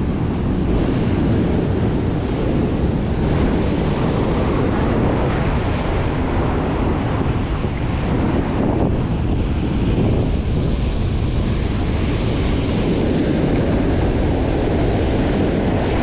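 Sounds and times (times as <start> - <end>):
heavy surf breaking on rocks: 0.0 - 16.0
wind buffeting microphone: 0.0 - 16.0.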